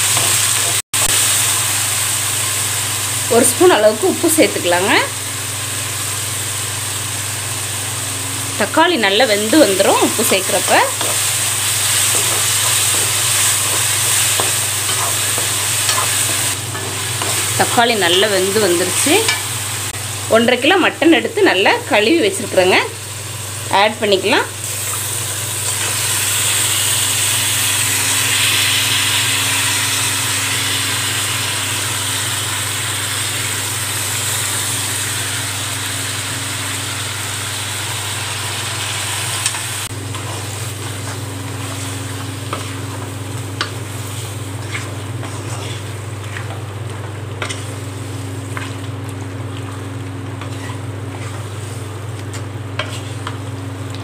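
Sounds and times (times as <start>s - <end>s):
meat sizzling in a wok: 0.0s - 54.0s.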